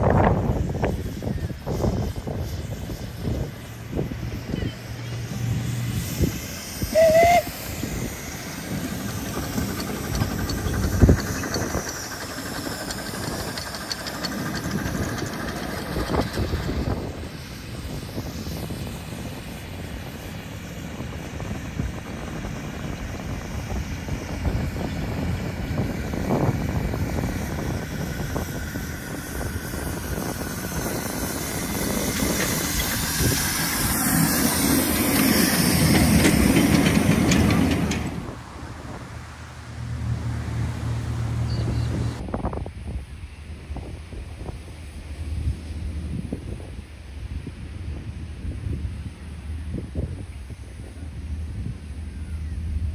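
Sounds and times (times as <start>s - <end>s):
wind noise on microphone: 0.0s - 39.2s, 40.6s - 52.9s
steam hissing: 0.0s - 52.0s
train rumble: 0.0s - 52.9s.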